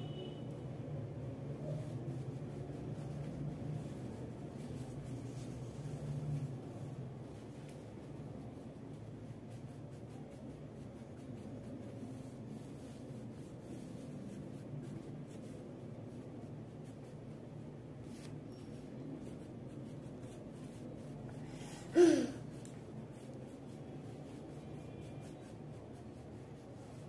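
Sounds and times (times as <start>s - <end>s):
crayon scratching on paper: 1.5s - 27.0s.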